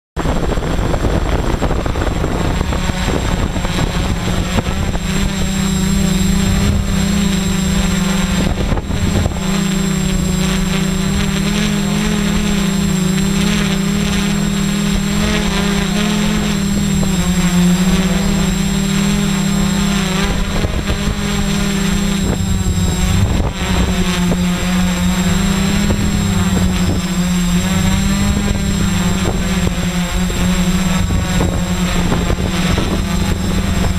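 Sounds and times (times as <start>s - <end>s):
drone propellers buzzing: 0.2s - 33.9s.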